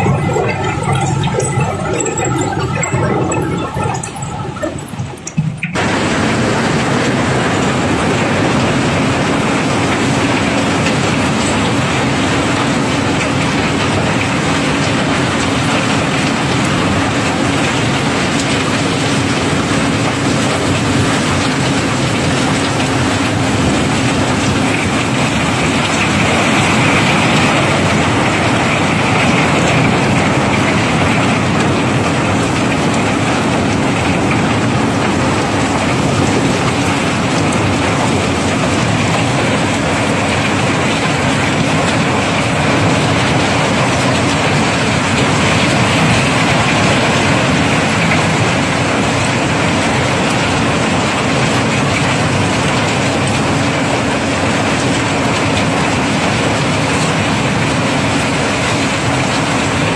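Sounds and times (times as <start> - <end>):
cobblestones rattling: 0.0 - 59.8.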